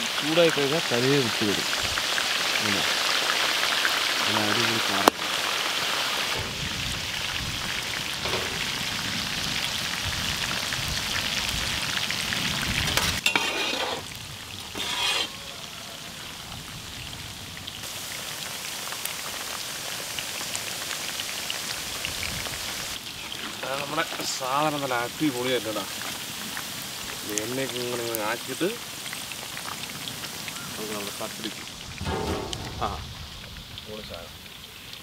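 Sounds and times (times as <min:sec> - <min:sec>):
fish deep-frying in oil: 0:00.0 - 0:35.0.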